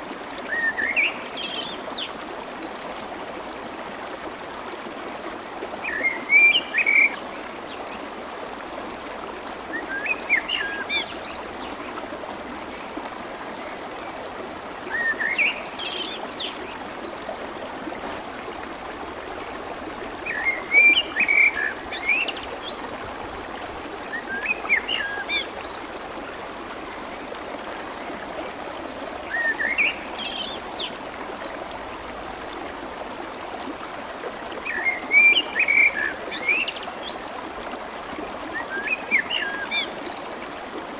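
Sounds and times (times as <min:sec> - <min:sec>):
fast-flowing water babbling: 0:00.0 - 0:40.9.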